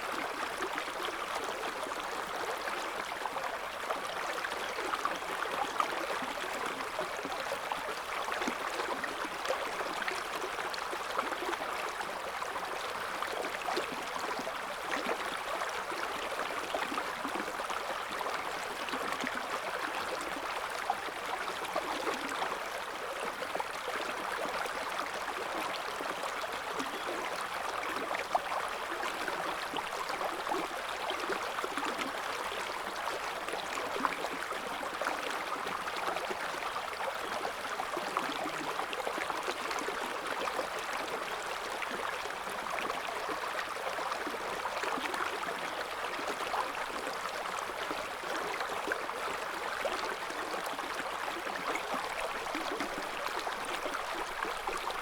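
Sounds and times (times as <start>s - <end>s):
river water babbling: 0.1s - 55.0s.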